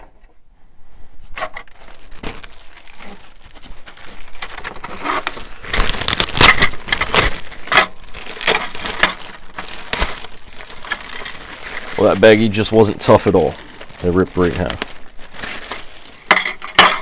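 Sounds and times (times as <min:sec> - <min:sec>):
plastic bag crinkling: 0:01.4 - 0:17.0
plastic bag ripping: 0:01.4 - 0:17.0.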